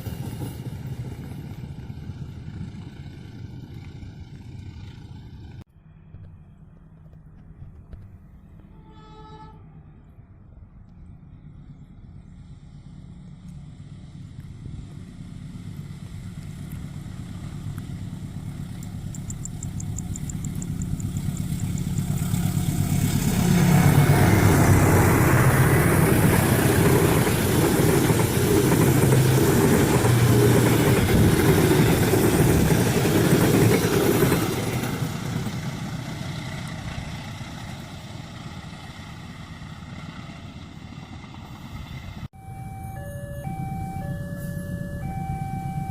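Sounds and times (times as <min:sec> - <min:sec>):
locomotive engine drone: 0:00.0 - 0:45.9.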